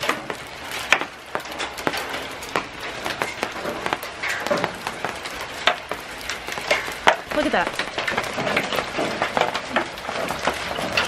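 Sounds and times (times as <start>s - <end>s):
hailstones ticking on canopy: 0.0s - 11.0s
hiss of falling precipitation: 0.0s - 11.0s.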